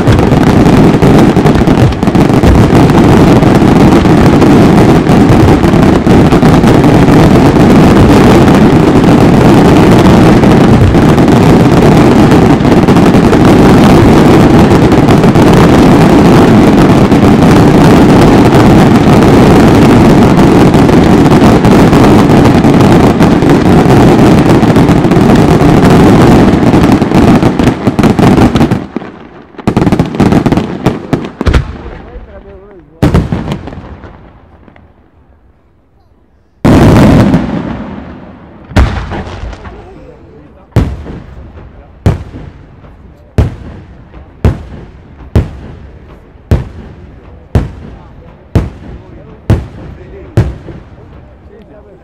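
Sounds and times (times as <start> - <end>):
firework bangs: 0.0 - 35.0, 36.6 - 52.0
fireworks bursts and crackling: 0.0 - 35.5, 36.2 - 52.0.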